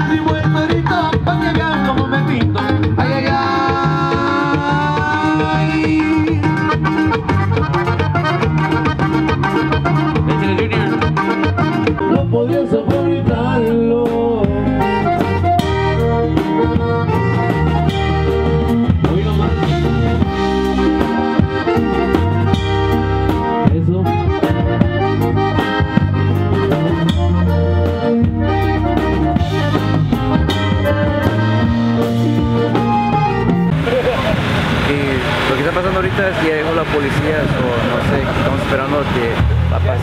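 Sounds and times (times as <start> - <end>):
accordion: 0.0 - 40.0
drum kit beat: 0.0 - 40.0
guitar: 0.0 - 40.0.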